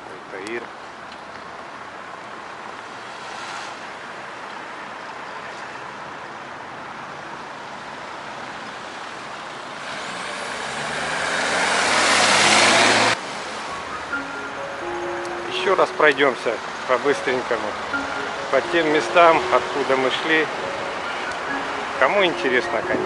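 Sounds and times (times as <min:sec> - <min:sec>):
street traffic hum: 0:00.0 - 0:23.0.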